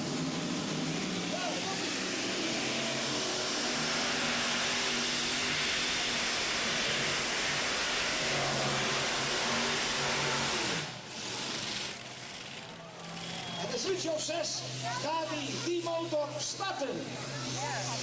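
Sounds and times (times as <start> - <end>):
vehicle engine roaring: 0.0 - 18.0.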